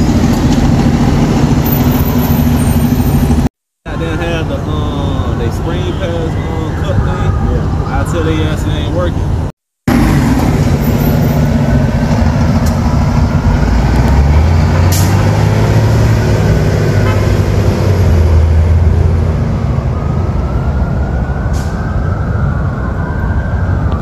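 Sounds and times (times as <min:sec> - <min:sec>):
diesel bus engine accelerating: 0:00.0 - 0:06.8, 0:07.6 - 0:22.8.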